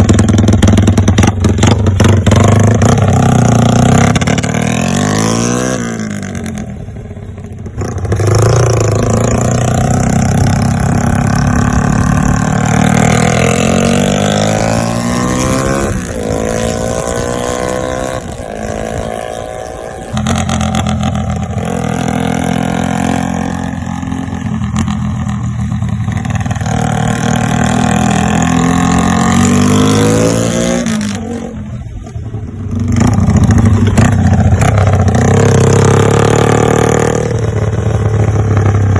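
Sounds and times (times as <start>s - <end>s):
moped engine revving: 0.0s - 38.9s.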